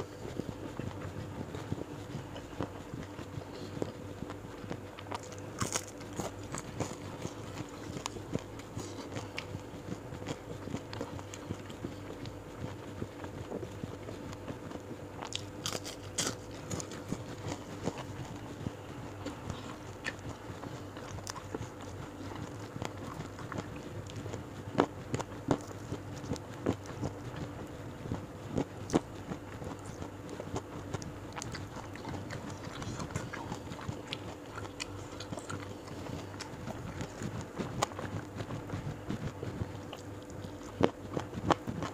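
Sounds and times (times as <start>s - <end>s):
chewing crunchy food: 0.0s - 41.9s
faint steady hum: 0.0s - 41.9s.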